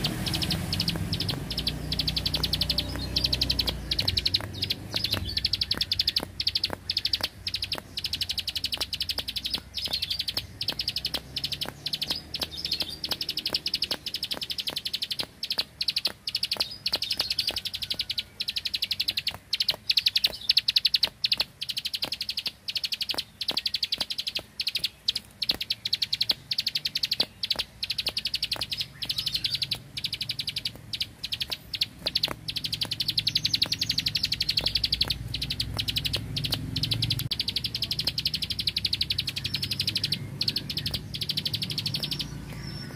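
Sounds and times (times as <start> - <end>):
bird singing rapid trill: 0.0 - 42.9.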